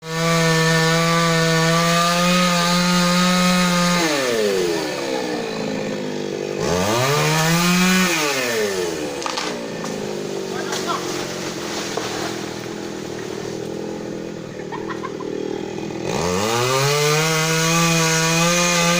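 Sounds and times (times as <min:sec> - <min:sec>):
chainsaw engine revving: 0:00.0 - 0:18.9.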